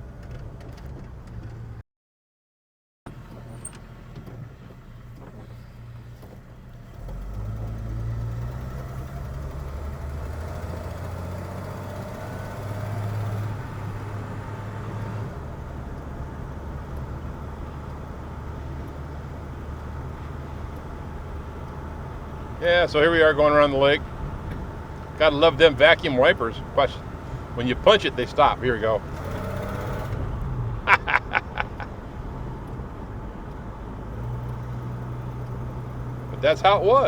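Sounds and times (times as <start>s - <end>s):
car engine running: 3.1s - 37.0s.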